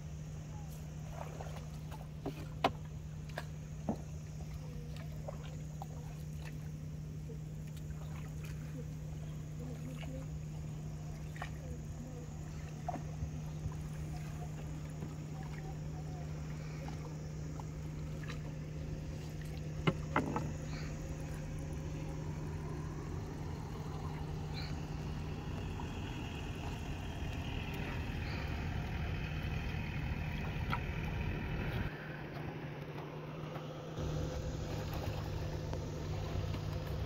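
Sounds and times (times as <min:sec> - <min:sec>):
oars splashing water: 0:00.0 - 0:37.0
steady low hum: 0:00.0 - 0:37.0.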